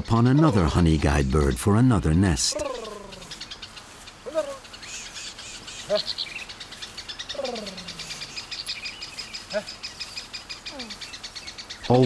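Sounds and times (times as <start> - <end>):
people hooting calls: 0.0 - 11.3
high bird chirps chatter: 0.0 - 12.0.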